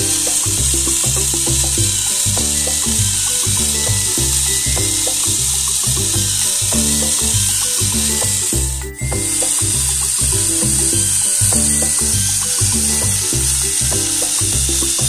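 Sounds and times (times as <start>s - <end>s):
continuous hiss: 0.0s - 15.0s
music with rhythmic bass line: 0.0s - 15.0s.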